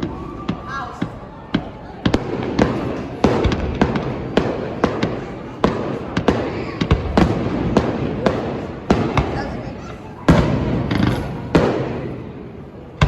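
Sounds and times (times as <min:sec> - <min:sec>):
fireworks crackle: 0:00.0 - 0:12.4
fireworks bangs: 0:00.0 - 0:13.0.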